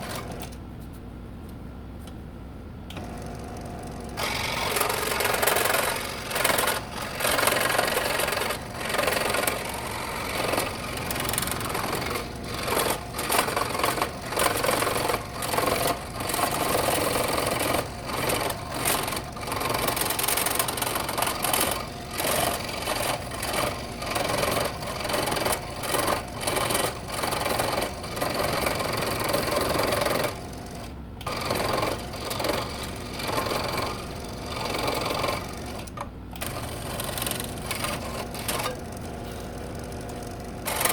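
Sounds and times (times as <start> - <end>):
scroll saw cutting wood: 4.1 - 40.9.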